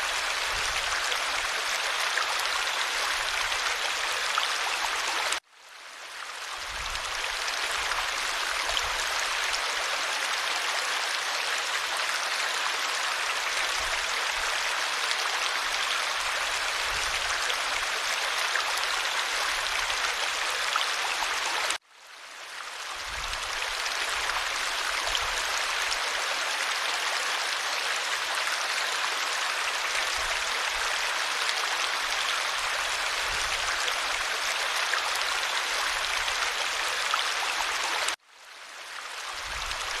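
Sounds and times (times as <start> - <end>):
stream water rushing: 0.0 - 5.4, 6.4 - 21.8, 22.5 - 40.0.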